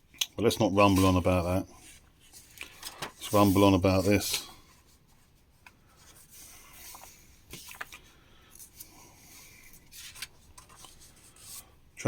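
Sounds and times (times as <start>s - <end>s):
magazine paper rustling: 0.8s - 11.7s.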